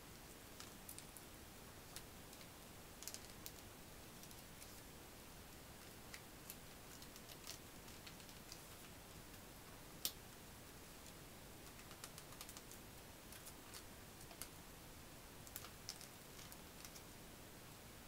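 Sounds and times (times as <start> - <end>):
low hiss: 0.0 - 18.0.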